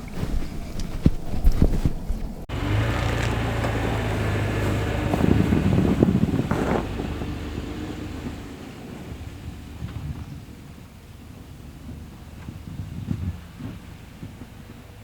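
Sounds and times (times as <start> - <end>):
road noise: 0.0 - 15.0
truck engine hum: 2.0 - 15.0.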